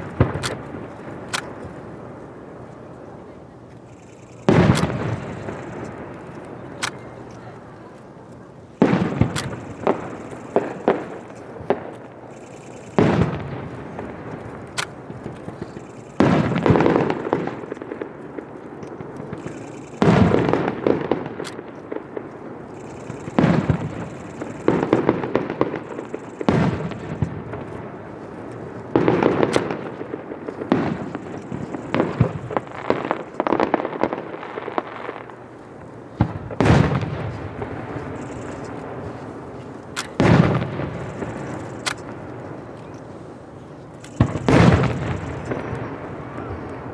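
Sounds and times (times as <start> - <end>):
sharp pops: 0.0 - 18.0, 18.8 - 46.9
fireworks bursting with bangs: 0.0 - 46.9
fireworks crackling: 0.0 - 46.9.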